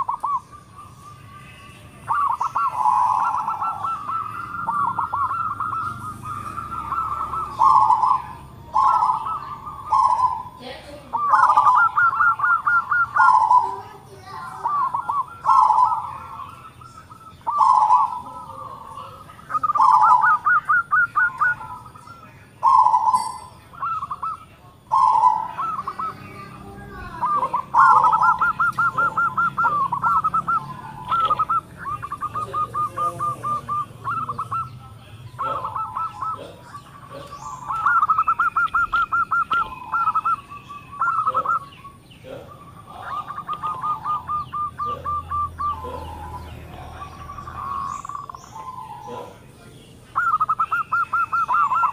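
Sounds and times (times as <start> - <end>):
zebra dove cooing: 0.0 - 51.9.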